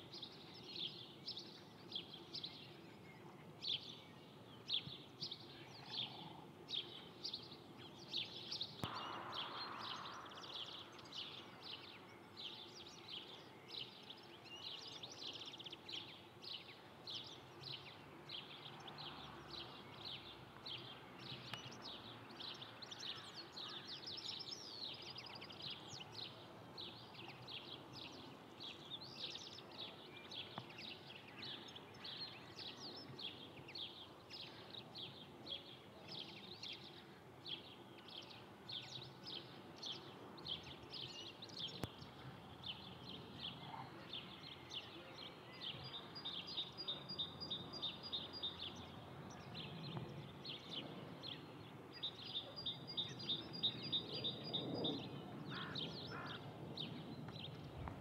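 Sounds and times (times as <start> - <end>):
faint background noise: 0.0 - 58.0
small birds chirping: 0.0 - 58.0.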